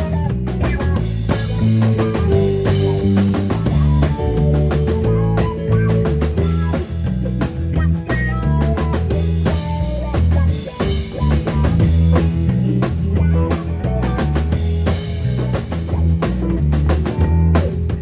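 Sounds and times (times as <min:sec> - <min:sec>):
bass line: 0:00.0 - 0:18.0
rock band playing live: 0:00.0 - 0:18.0.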